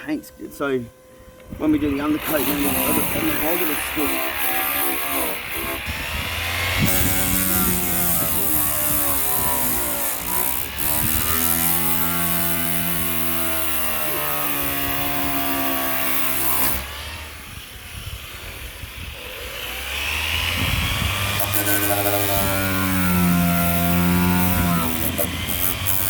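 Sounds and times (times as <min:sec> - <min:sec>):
power sander on metal: 0:00.0 - 0:26.0.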